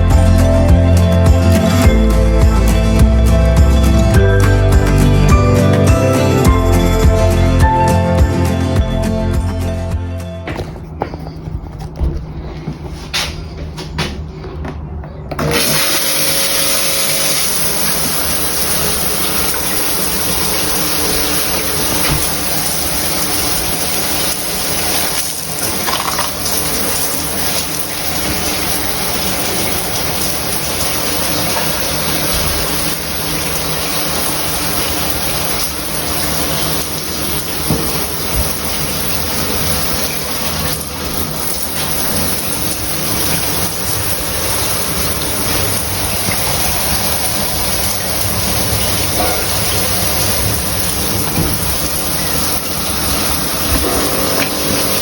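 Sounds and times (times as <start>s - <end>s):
electric shower spraying water: 0.0s - 8.6s, 15.4s - 55.0s.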